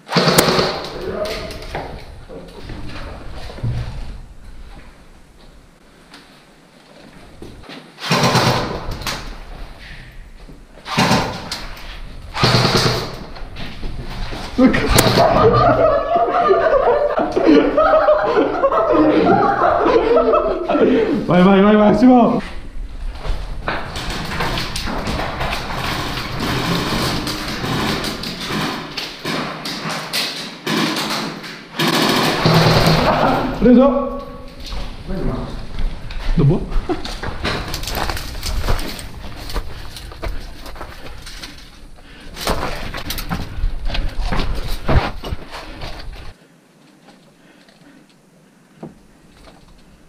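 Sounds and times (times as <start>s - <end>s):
hurried footsteps: 0.6s - 7.9s, 9.3s - 46.4s.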